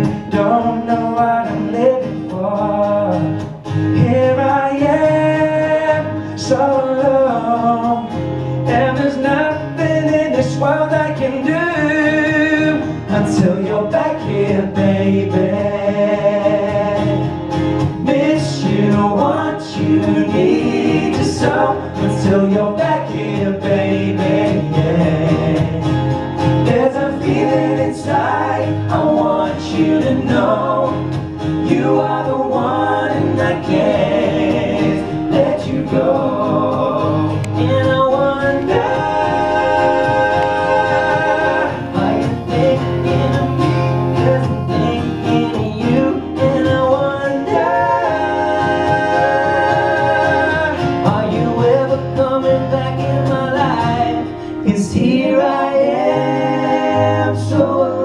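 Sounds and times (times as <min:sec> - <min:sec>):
guitar and band: 0:00.0 - 0:58.0
male vocal group singing: 0:00.0 - 0:58.0.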